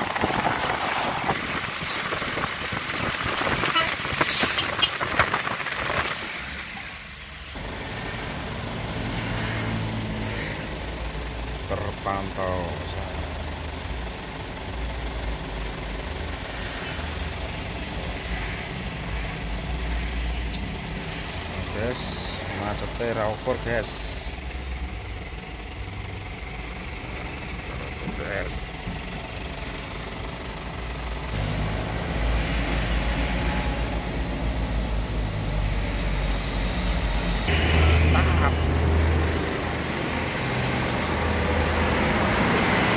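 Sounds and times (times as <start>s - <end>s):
road noise: 0.0s - 42.9s
vehicle engine idling: 6.5s - 42.9s.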